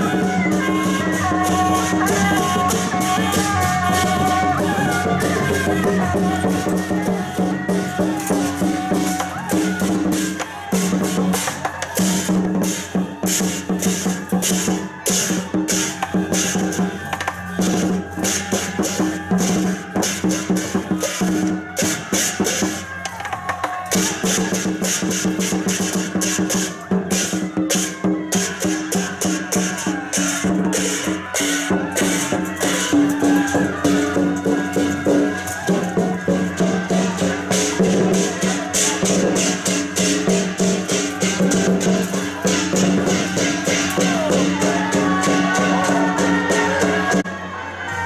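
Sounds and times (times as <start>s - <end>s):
cymbals clashing: 0.0s - 48.0s
drum strokes: 0.0s - 48.0s.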